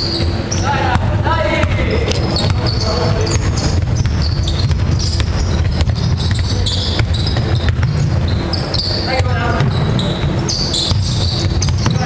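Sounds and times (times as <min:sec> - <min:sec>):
basketball bouncing on wooden floor: 0:00.0 - 0:12.0
low hall rumble: 0:00.0 - 0:12.0
shoes squeaking on floor: 0:00.0 - 0:12.0.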